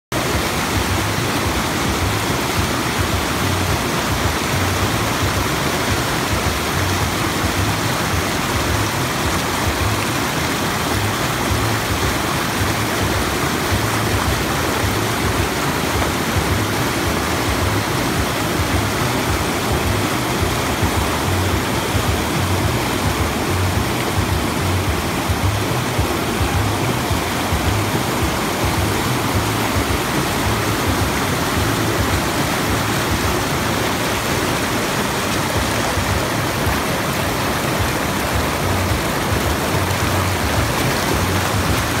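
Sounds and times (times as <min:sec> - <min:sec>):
river rushing over rocks: 0:00.1 - 0:42.0.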